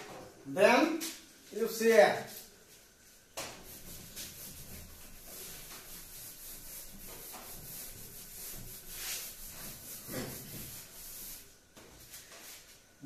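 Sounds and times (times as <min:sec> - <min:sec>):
cloth wiping a blackboard: 0:01.0 - 0:13.0.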